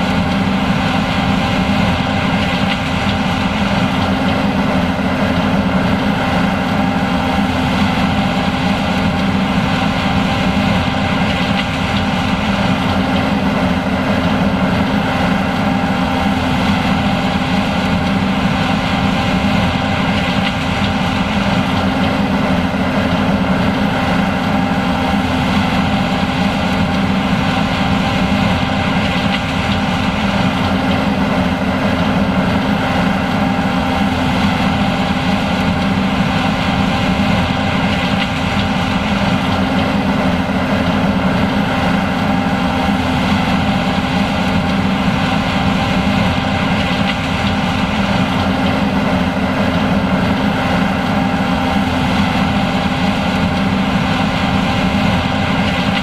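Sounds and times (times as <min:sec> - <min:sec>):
combine engine drone: 0:00.0 - 0:56.0.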